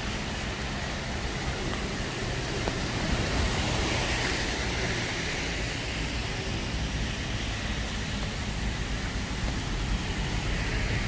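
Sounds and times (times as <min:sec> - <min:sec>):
traffic tyres hissing on wet road: 0:00.0 - 0:11.0.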